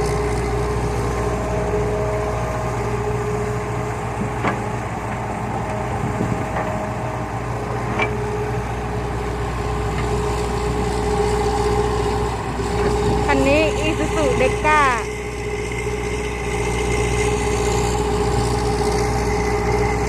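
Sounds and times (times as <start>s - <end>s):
diesel engines running under load: 0.0s - 20.0s.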